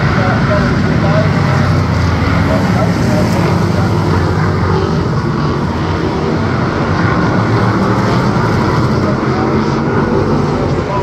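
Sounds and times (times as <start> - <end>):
stock car engine droning: 0.0 - 11.0.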